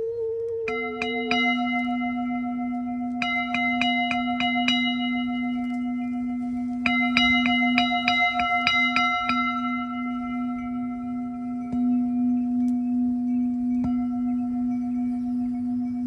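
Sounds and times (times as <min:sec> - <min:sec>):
singing bowl ringing hum: 0:00.0 - 0:16.0
singing bowl struck with mallet: 0:00.7 - 0:16.0.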